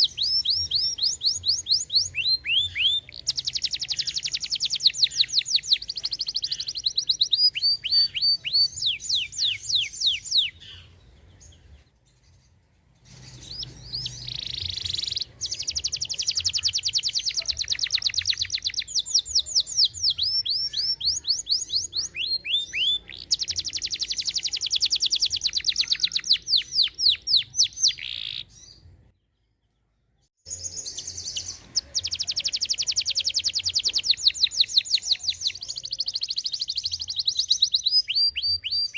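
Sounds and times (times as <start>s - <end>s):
canary singing trills: 0.0s - 29.3s, 30.4s - 38.9s.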